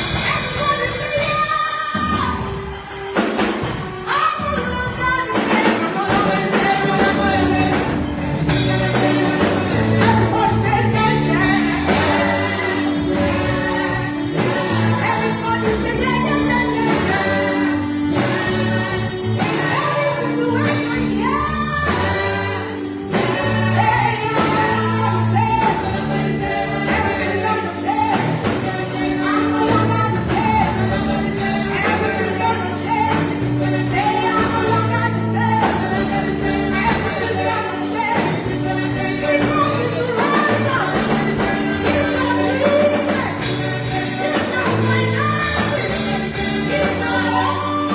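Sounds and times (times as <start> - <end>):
group singing gospel: 0.0 - 47.9
instrumental accompaniment with bass: 0.0 - 47.9.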